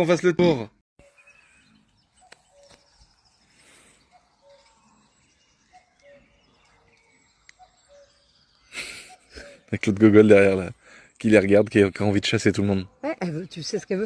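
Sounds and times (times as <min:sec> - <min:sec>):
faint birdsong: 0:00.0 - 0:14.0.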